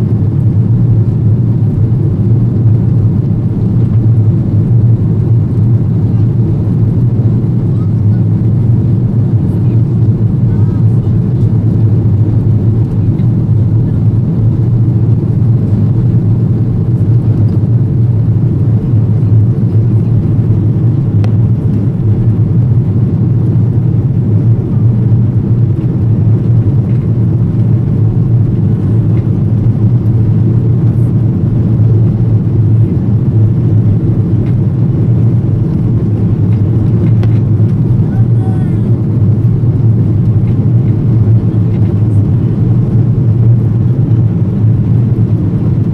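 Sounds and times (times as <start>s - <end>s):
jet engines inside cabin: 0.0s - 45.9s.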